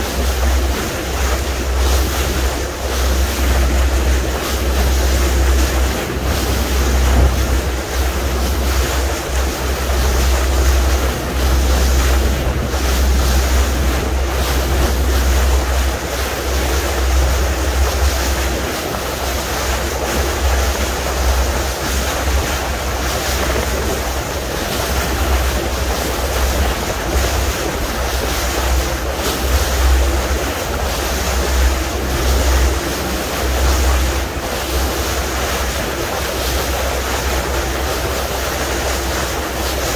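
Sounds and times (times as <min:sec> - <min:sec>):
sea water splashing along hull: 0:00.0 - 0:39.9
wind buffeting microphone: 0:00.0 - 0:39.9.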